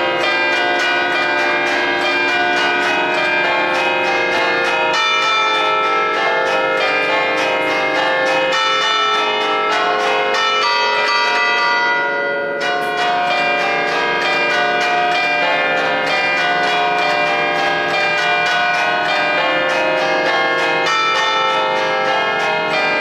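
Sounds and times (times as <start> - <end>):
church bells ringing melody: 0.0 - 23.0.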